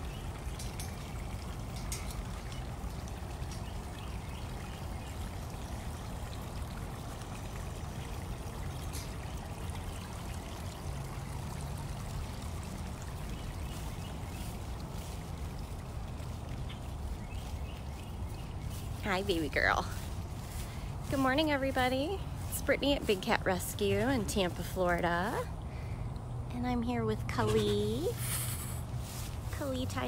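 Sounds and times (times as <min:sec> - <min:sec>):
water pouring into a pond: 0:00.0 - 0:26.5, 0:27.7 - 0:30.0.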